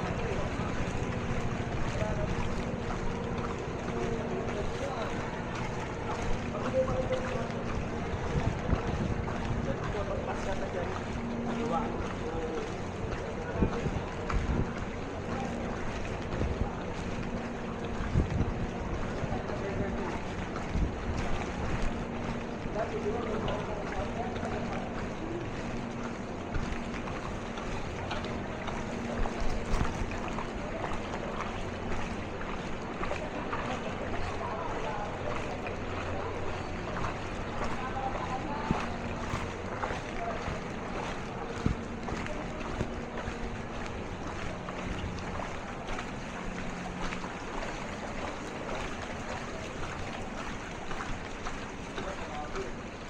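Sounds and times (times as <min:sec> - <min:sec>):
engine hum: 0:00.0 - 0:53.0
water splashing: 0:00.0 - 0:53.0.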